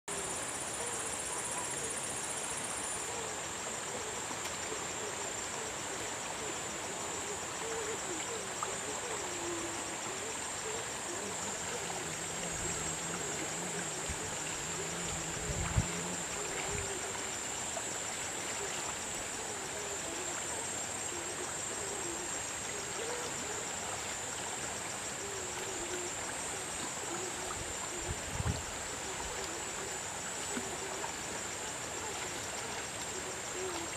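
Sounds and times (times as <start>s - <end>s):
stream over stones: 0.1s - 33.9s.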